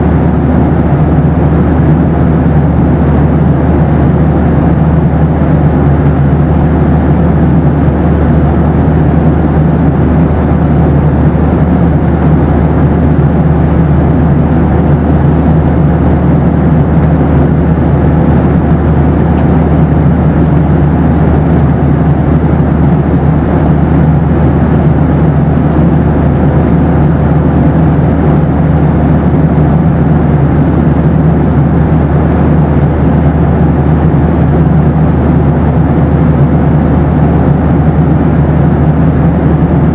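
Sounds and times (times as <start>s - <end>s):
airplane cabin engine rumble: 0.0s - 39.9s
faint steady hum: 0.0s - 39.9s.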